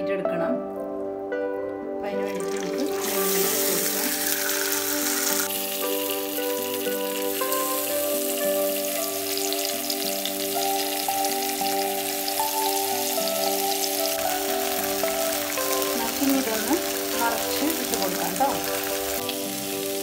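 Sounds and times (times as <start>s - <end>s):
soft background music: 0.0s - 20.0s
fish sizzling in a pan: 2.3s - 20.0s.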